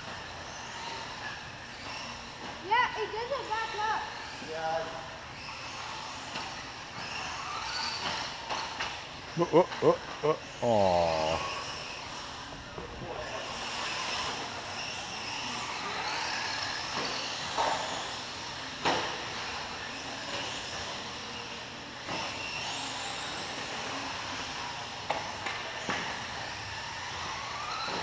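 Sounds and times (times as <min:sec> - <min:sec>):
rc car motors whining: 0:00.0 - 0:28.0.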